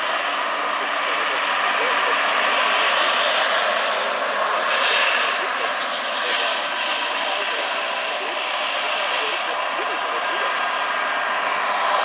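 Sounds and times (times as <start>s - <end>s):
model turbine whining: 0.0s - 12.0s
rotor blades rushing: 0.0s - 12.0s.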